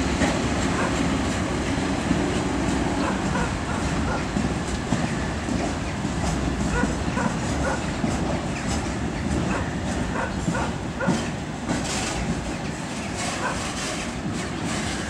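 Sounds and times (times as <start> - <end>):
wheels clacking over rail joints: 0.0 - 15.0.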